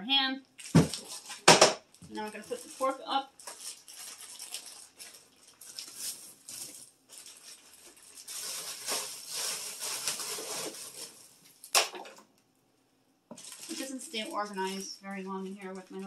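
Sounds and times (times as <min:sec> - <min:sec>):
plastic bags rustling and crinkling: 0:00.6 - 0:12.2, 0:13.3 - 0:16.0.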